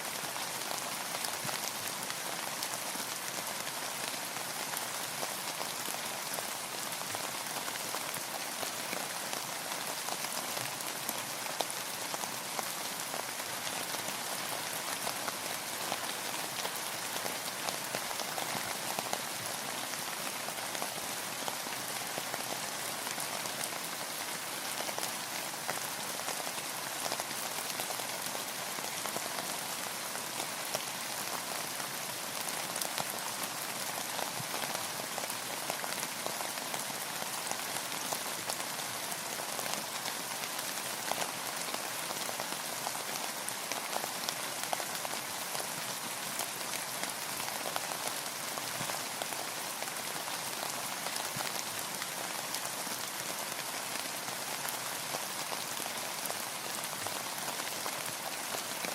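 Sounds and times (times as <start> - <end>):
rain pattering: 0.1 - 58.9.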